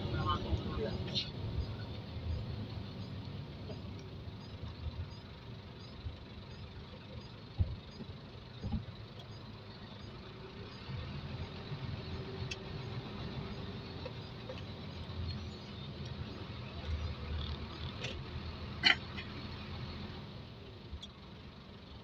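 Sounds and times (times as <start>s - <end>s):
road noise: 0.0s - 22.0s
truck engine running: 0.0s - 22.0s.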